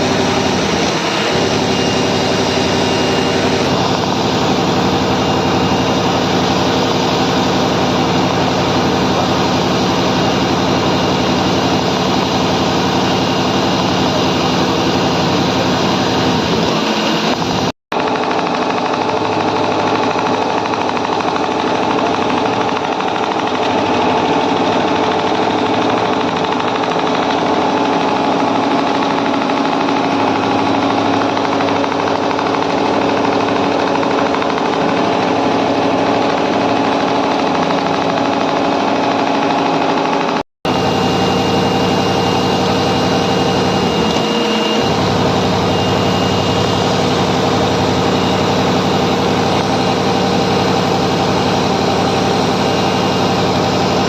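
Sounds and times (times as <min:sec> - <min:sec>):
industrial sewing machine clatter: 0:00.0 - 0:40.4, 0:41.2 - 0:54.0.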